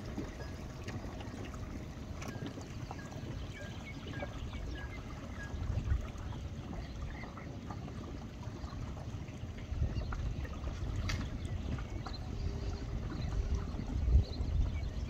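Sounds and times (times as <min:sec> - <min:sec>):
waves lapping at bank: 0:00.0 - 0:15.0
wind rumbling on microphone: 0:02.6 - 0:15.0.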